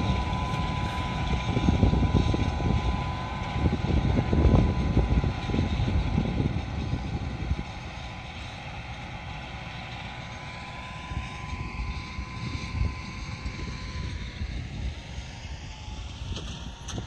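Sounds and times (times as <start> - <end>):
distant tractor running: 0.0 - 17.0.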